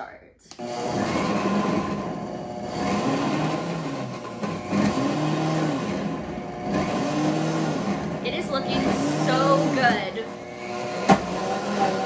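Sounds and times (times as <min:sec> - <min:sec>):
blender motor running: 0:00.5 - 0:12.0.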